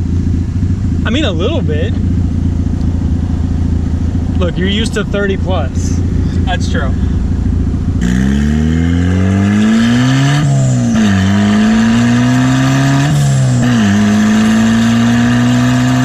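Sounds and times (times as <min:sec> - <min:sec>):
car engine revving through gears: 0:01.9 - 0:16.0.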